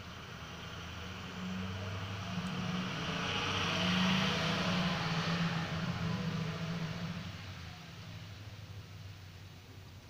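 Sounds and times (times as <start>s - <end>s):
tyres hissing on wet road: 0.1s - 9.6s.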